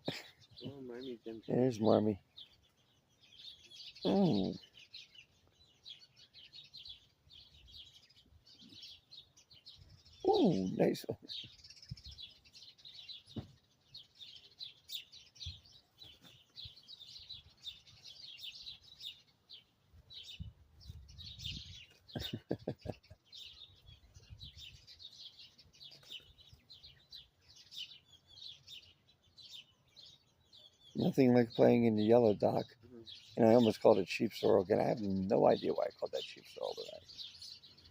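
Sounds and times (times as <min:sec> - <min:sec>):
lower pitched bird call: 0:00.0 - 0:37.9
small birds chirping: 0:00.0 - 0:37.9.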